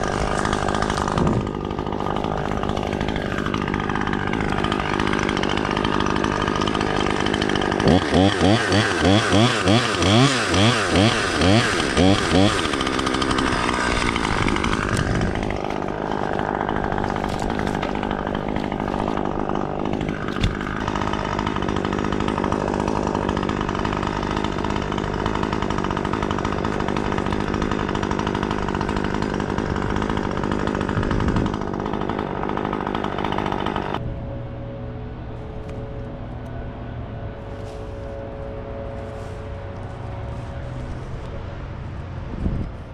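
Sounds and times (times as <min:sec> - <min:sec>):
dull hum: 0:00.0 - 0:09.0, 0:11.1 - 0:42.9
chainsaw running: 0:00.0 - 0:42.9.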